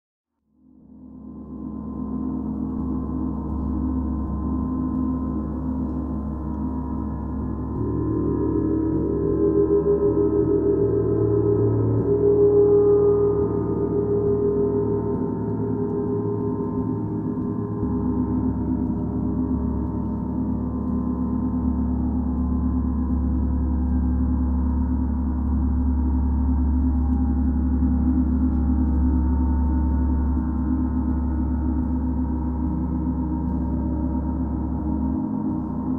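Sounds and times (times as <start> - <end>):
gong played with soft mallet: 1.8 - 35.9.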